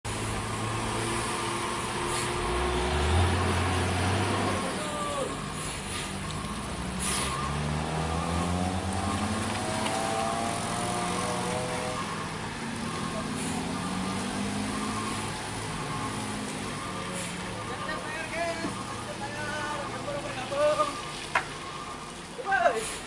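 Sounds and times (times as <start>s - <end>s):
diesel truck engine labouring: 0.0s - 23.0s.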